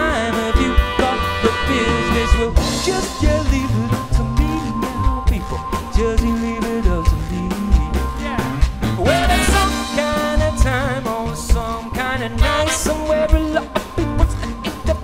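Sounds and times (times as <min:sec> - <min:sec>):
electric guitar: 0:00.0 - 0:15.0
man singing: 0:00.0 - 0:15.0
plucked double bass: 0:00.0 - 0:15.0
steady beat: 0:02.5 - 0:15.0.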